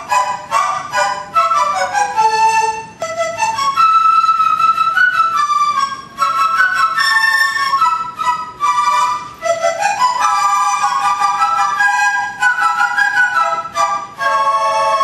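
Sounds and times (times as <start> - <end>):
bamboo flutes playing together: 0.0 - 15.0.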